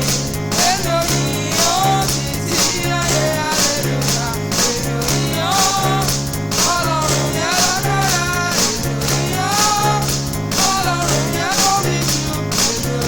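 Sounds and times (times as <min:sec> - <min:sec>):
band with steady beat: 0:00.0 - 0:13.0
person singing: 0:00.0 - 0:13.0
pulsing bass line: 0:00.0 - 0:13.0.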